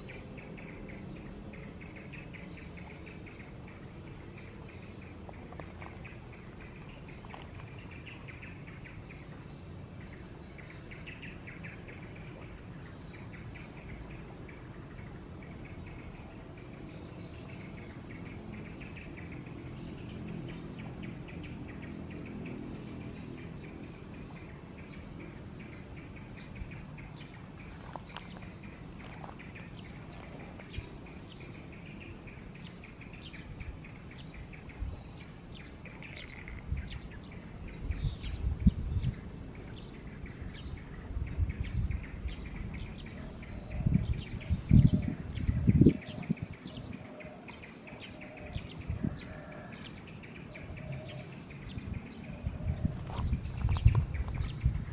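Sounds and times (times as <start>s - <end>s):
birds chirping and calling: 0.0s - 54.9s
steady high outdoor buzz: 0.0s - 54.9s.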